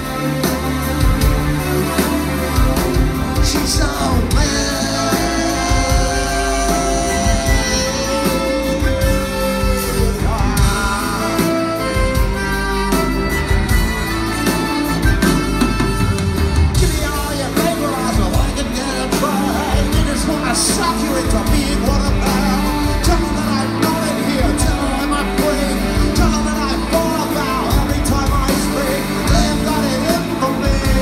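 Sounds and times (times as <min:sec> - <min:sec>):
rock band playing live: 0:00.0 - 0:31.0
man singing: 0:02.7 - 0:31.0.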